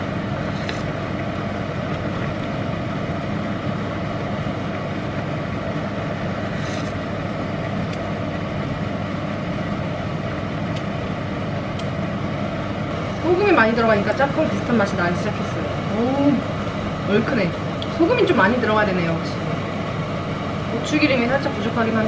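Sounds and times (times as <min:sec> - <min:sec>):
pots boiling and bubbling: 0:00.0 - 0:22.0.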